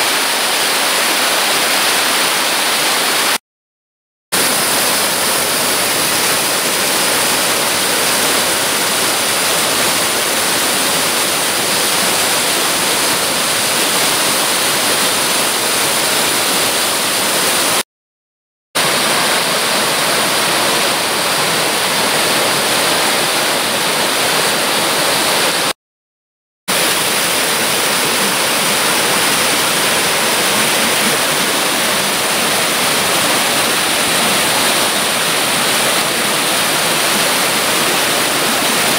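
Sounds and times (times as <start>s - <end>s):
stream rushing over rocks: 0.0s - 3.4s, 4.4s - 17.8s, 18.8s - 25.7s, 26.7s - 38.9s.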